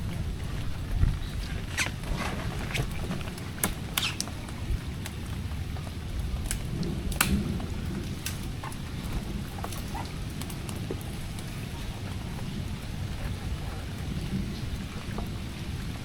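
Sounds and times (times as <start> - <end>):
rain falling: 0.0 - 16.0
raindrops tapping a surface: 0.0 - 16.0
steady low rumble: 0.0 - 16.0.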